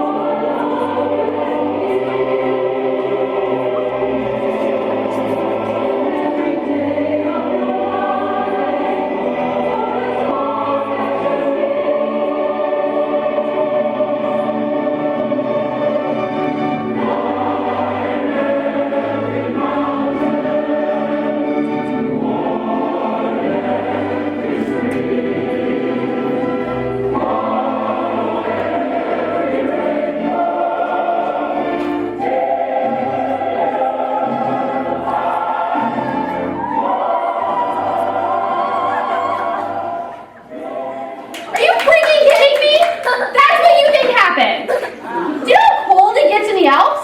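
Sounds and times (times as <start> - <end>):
choir singing slow chords: 0.0 - 41.5.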